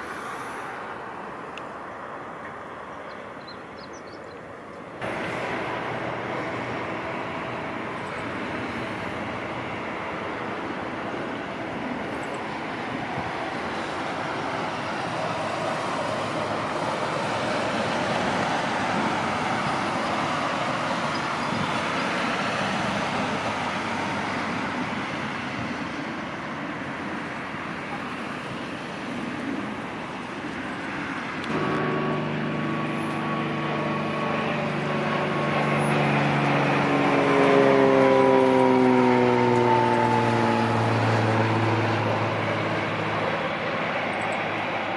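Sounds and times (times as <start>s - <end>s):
jet engines roaring at takeoff: 0.0s - 44.9s.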